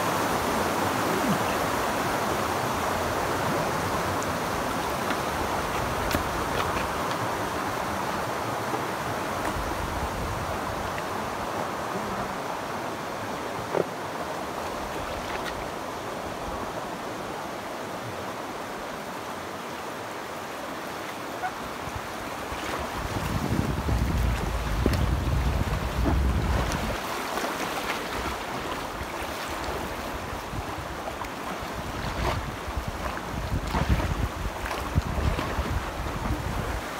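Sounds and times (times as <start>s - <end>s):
river water rushing over rocks: 0.0s - 36.9s.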